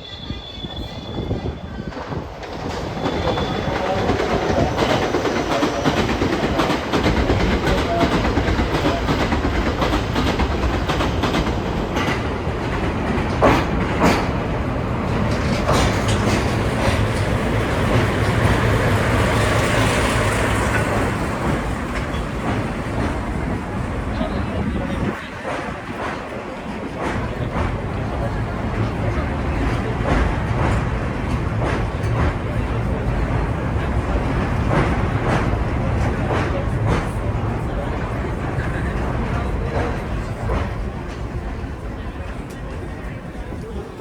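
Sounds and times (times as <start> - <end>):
diesel locomotive engine drone: 0.4 - 44.0
wheels clacking over rail joints: 2.0 - 43.9.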